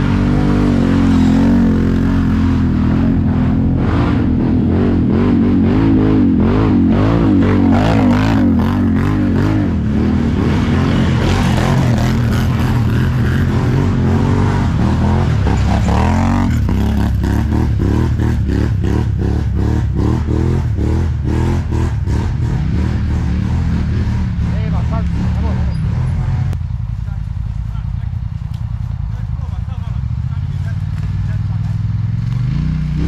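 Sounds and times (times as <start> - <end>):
atv engine revving: 0.0 - 26.6, 27.2 - 33.0.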